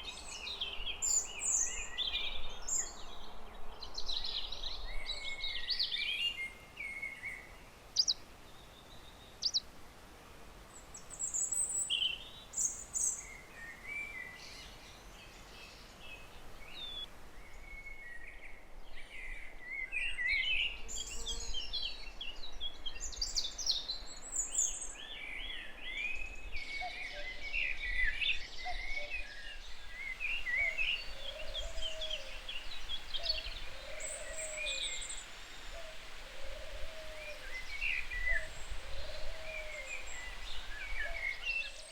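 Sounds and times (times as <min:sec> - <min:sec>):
songbirds singing and chirping: 0:00.0 - 0:09.7, 0:10.7 - 0:41.9
faint background hiss: 0:00.0 - 0:41.9.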